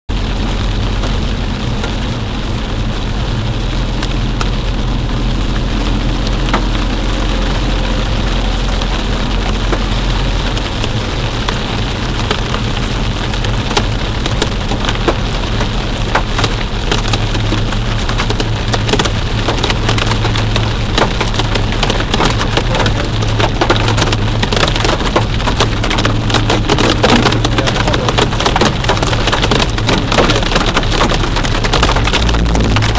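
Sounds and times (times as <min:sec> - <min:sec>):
hail hitting vehicle: 0:00.1 - 0:32.9
heavy rain on vehicle: 0:00.1 - 0:32.9
low road drone: 0:00.1 - 0:32.9.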